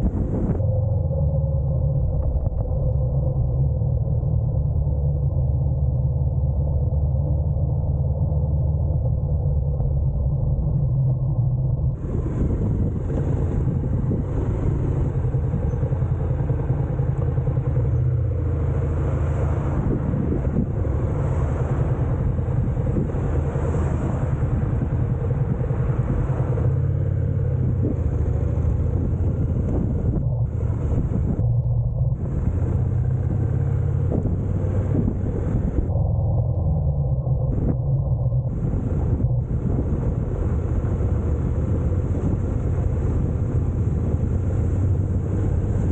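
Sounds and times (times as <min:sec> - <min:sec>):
motorcycle engine droning: 0:00.0 - 0:45.9
riding wind noise: 0:00.0 - 0:45.9.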